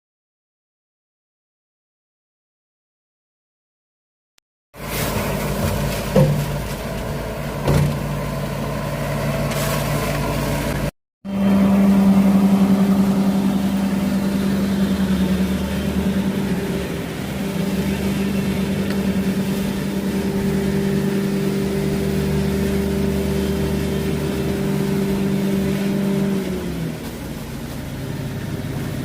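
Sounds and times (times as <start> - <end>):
engine humming: 4.8 - 29.0.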